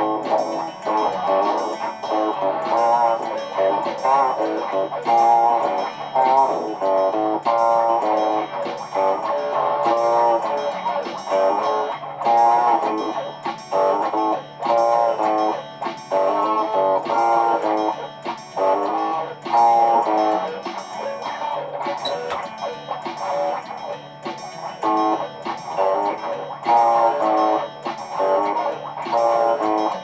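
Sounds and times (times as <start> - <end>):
electric guitar chords: 0.0 - 30.0.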